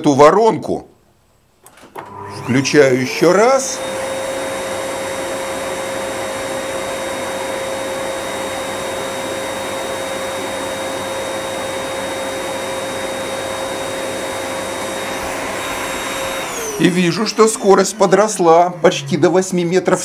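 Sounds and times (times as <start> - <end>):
electric air blower whining: 2.0 - 20.0.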